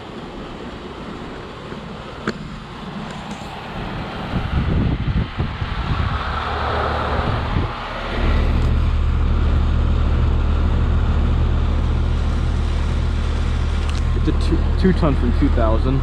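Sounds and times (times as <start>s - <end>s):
compressor humming: 0.0s - 16.0s.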